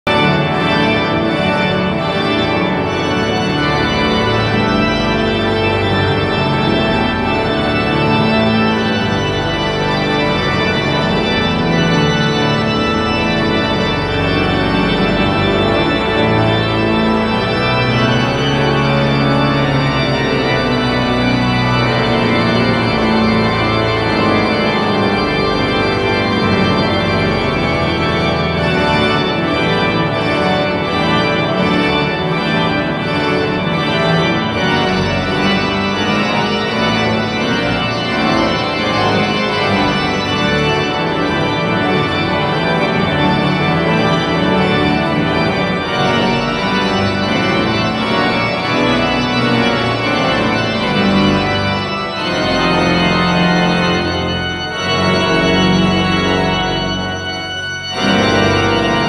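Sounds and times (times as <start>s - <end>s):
pipe organ playing chords: 0.0s - 59.0s.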